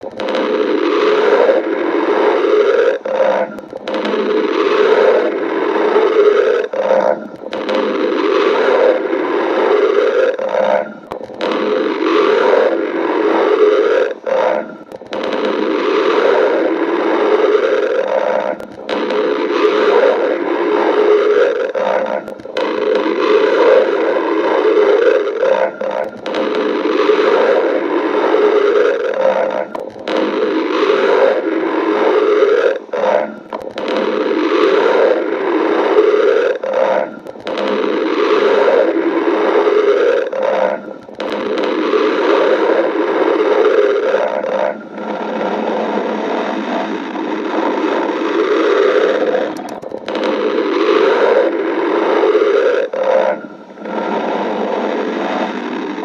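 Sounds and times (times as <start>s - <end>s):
stomach growling and gurgling: 0.0s - 56.0s.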